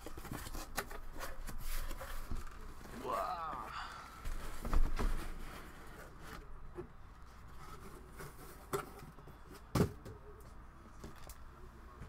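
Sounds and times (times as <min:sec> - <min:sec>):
cardboard boxes rustling: 0:00.0 - 0:10.0.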